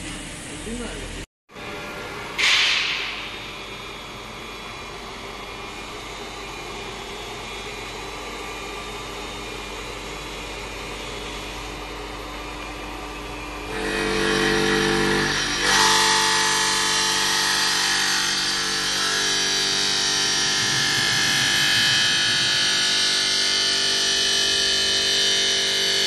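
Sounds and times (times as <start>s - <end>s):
machine motor hum: 0.0s - 26.0s.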